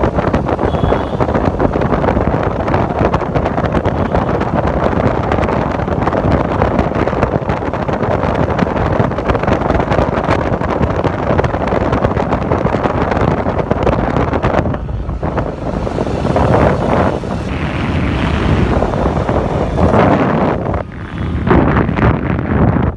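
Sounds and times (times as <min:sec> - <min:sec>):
motorbike engine and road rumble: 0:00.0 - 0:22.9
wind rushing over microphone: 0:00.0 - 0:22.9.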